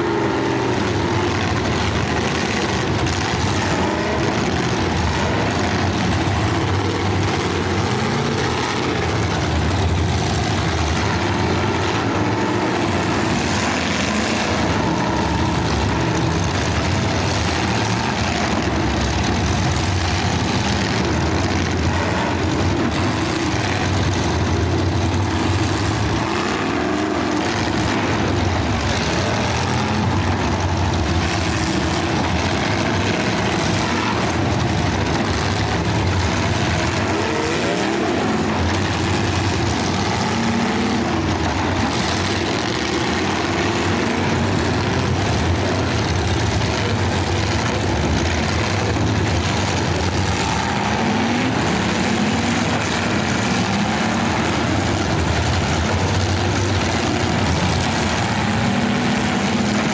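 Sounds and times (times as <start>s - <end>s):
car engines running and revving: 0.0s - 59.9s.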